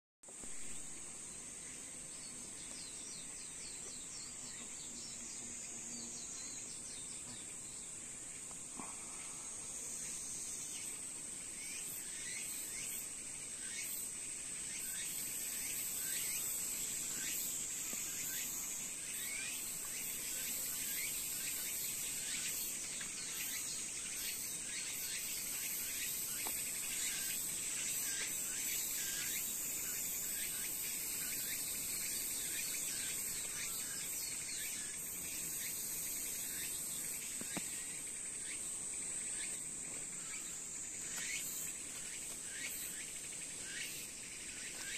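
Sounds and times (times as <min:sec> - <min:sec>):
high-pitched insect chorus: 0:00.3 - 0:44.9.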